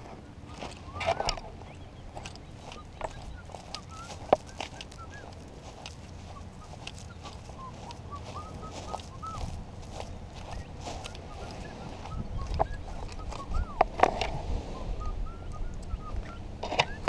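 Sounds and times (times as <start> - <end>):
birds chirping: 0.0 - 17.0
low steady rumble: 0.0 - 17.0.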